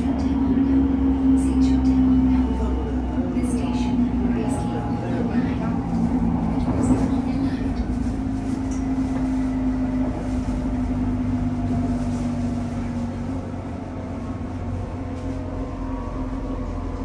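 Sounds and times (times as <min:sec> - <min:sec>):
train low rumble: 0:00.0 - 0:17.0
train steady hum: 0:00.0 - 0:17.0.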